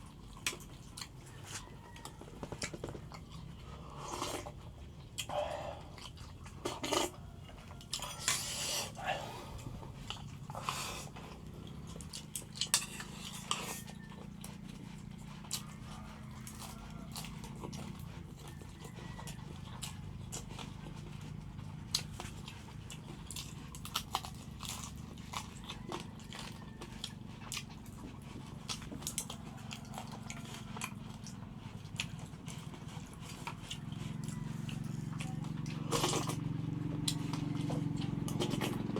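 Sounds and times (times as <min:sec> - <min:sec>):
crunching and chewing: 0:00.0 - 0:38.9
steady low hum: 0:00.0 - 0:38.9.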